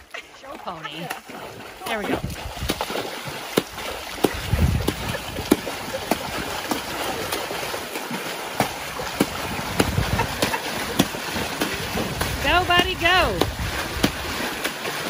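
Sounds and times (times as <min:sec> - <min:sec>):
hooves splashing through water: 0:00.0 - 0:15.0
stream rushing: 0:00.0 - 0:15.0.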